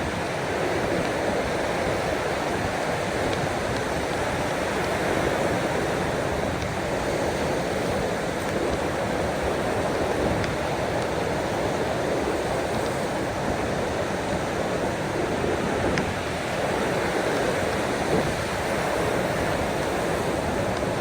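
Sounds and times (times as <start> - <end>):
ocean waves on shore: 0.0 - 21.0.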